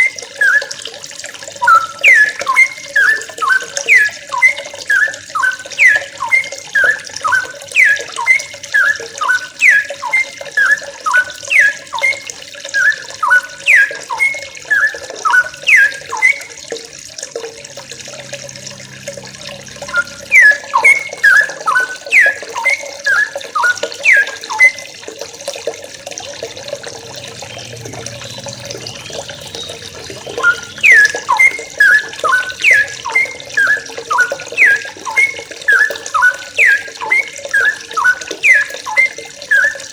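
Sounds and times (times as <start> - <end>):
birds chirping: 1.6 - 16.6, 17.7 - 24.9, 26.4 - 39.9.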